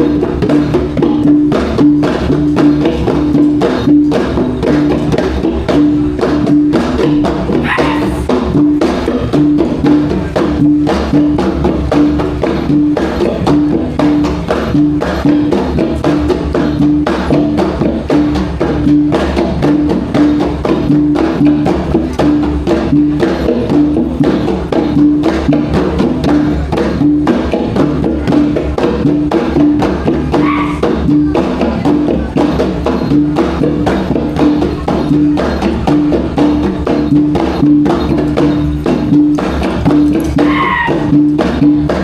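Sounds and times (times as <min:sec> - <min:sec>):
drums and gongs beating: 0:00.0 - 0:42.0.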